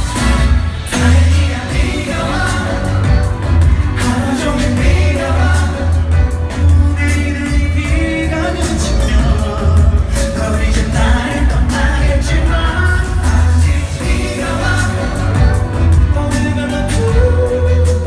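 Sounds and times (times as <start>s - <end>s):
pop band with heavy bass beat: 0.0s - 18.0s
man singing: 0.9s - 18.0s.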